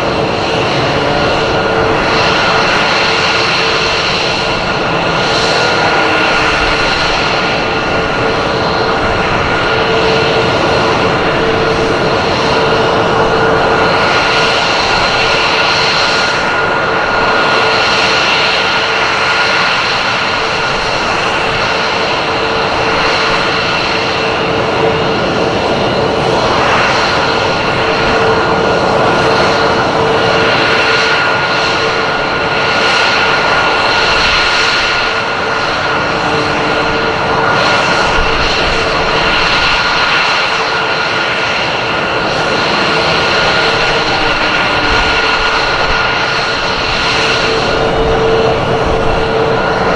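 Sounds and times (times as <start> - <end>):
aircraft engine whining: 0.0 - 49.9.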